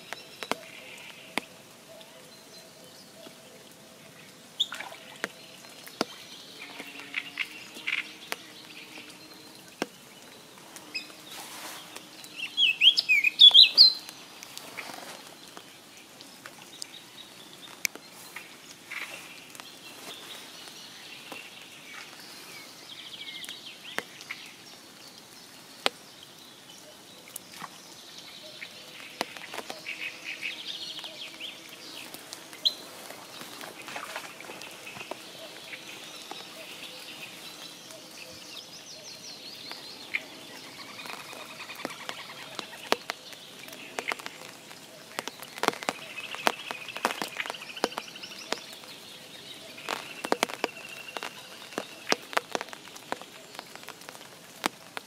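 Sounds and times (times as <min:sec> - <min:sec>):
raindrops ticking: 0:00.0 - 0:55.0
songbirds singing: 0:00.0 - 0:55.0.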